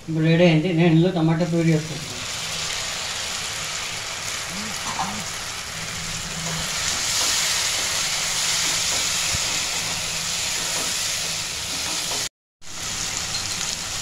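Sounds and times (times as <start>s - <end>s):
food sizzling in hot oil: 0.1s - 14.0s.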